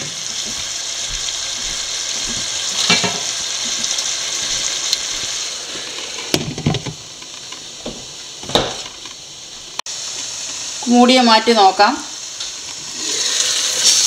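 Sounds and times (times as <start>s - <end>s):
curry sizzling in a pan: 0.0s - 14.0s.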